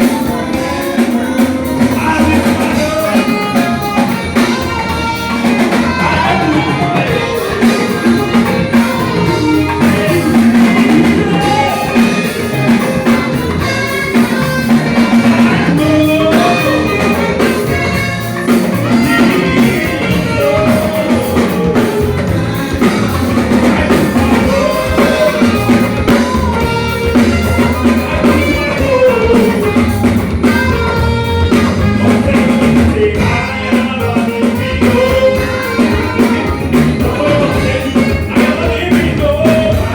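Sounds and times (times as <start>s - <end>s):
live band playing: 0.0s - 39.9s
person singing: 0.0s - 39.9s.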